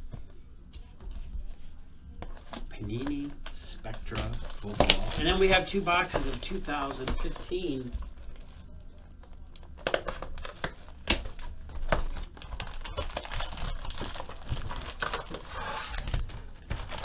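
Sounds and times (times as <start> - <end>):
foil wrappers crinkling: 2.2 - 17.0.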